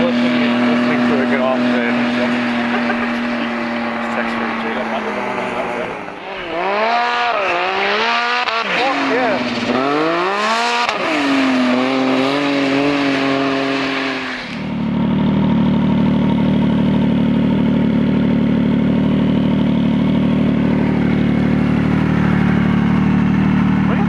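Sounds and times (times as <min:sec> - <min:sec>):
snowmobile engine idling: 0:00.0 - 0:24.0
snowmobile engine running: 0:00.0 - 0:24.0.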